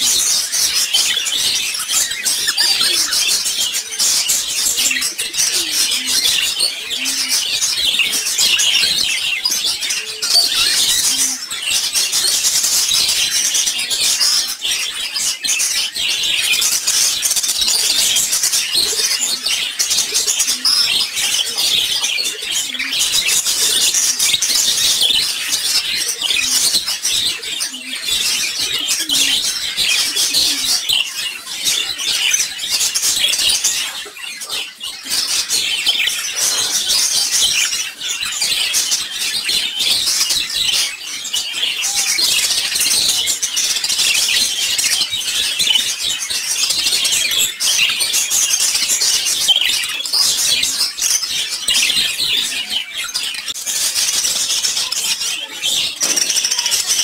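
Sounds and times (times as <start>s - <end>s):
budgerigars chirping and warbling: 0.0s - 57.0s.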